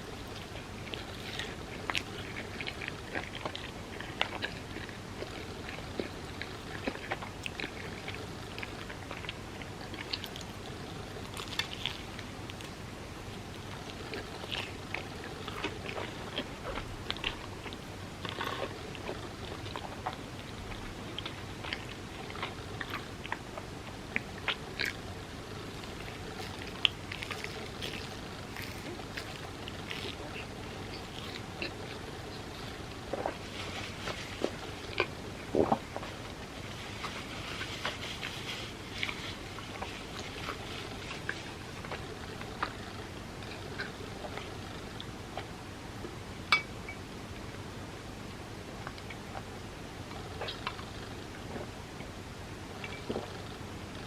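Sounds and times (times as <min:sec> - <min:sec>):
chewing and biting: 0:00.0 - 0:45.5
background hiss: 0:00.0 - 0:54.0.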